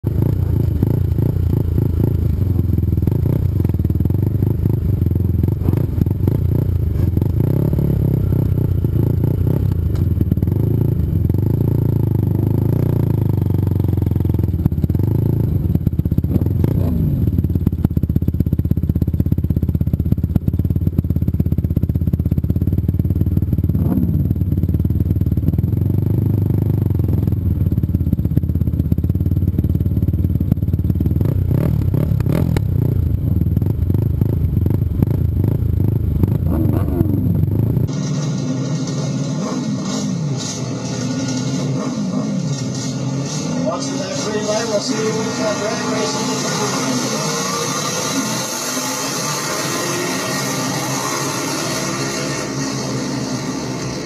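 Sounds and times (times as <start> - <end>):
quad engine idling and revving: 0.0 - 54.0.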